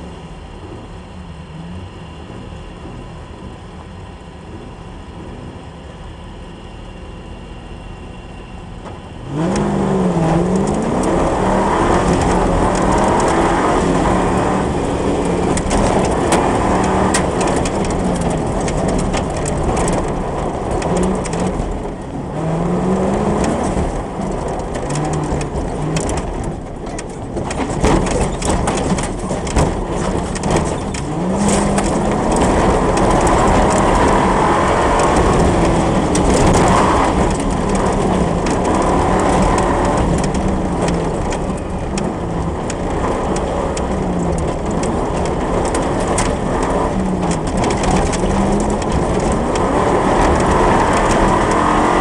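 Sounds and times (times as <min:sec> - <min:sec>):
car engine revving: 0:07.6 - 0:52.0
car knocking on rough dirt track: 0:08.7 - 0:52.0.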